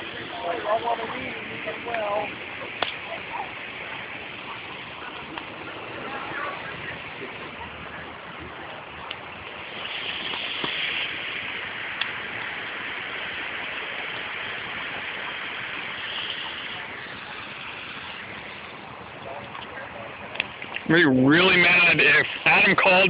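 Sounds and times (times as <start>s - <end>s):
bonfire rushing hiss: 0.0s - 23.0s
fire crackling pops: 0.0s - 23.0s.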